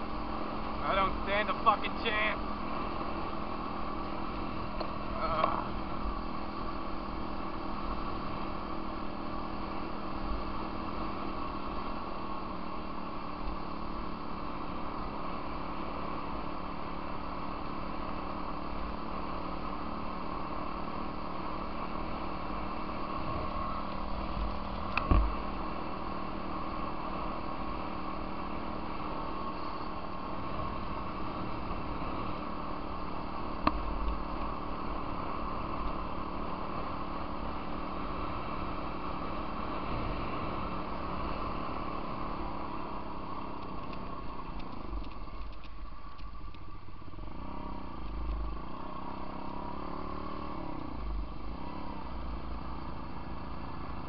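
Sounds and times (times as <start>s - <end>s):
off-road vehicle engine running: 0.0s - 54.0s
rumble of driving on gravel: 0.0s - 54.0s.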